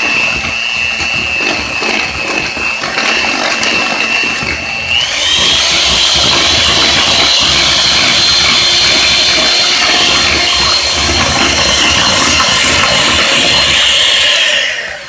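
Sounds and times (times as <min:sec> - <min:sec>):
electric mixer whirring: 0:00.0 - 0:15.0.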